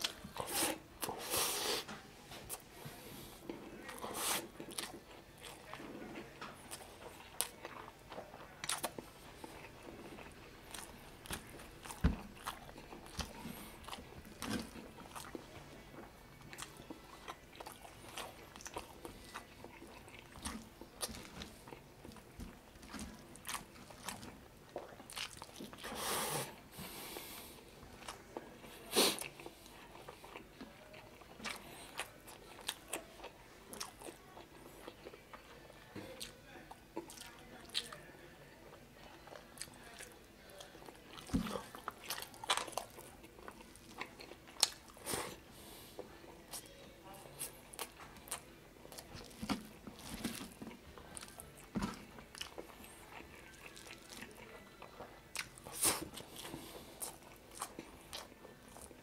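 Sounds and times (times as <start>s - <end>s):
person chewing food: 0.0s - 38.0s, 39.0s - 59.0s.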